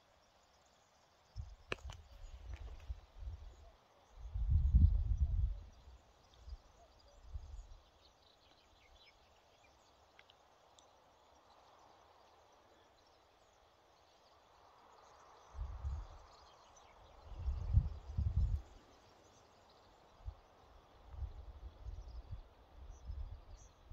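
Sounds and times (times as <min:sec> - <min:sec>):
faint distant bird chirps: 0:00.1 - 0:23.9.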